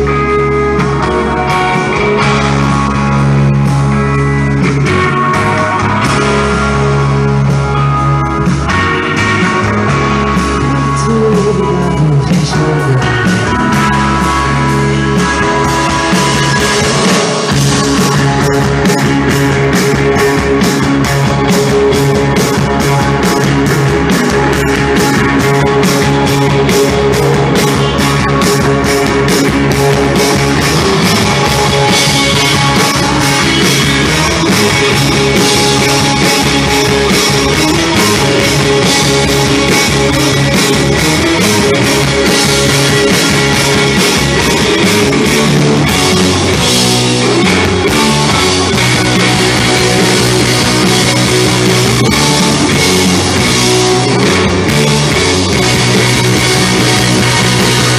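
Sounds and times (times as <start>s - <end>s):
drum kit steady beat: 0.0s - 57.9s
electric guitars: 0.0s - 57.9s.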